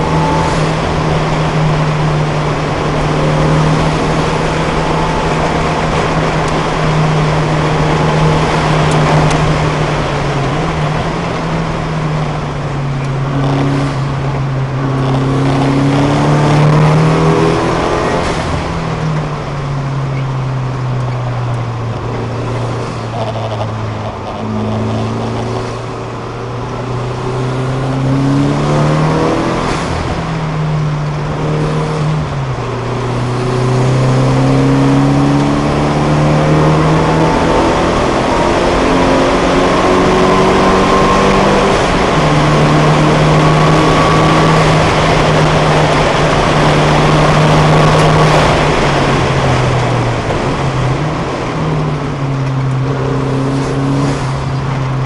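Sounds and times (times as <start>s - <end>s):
car engine at high revs: 0.0s - 55.0s
wind and road noise: 0.0s - 55.0s.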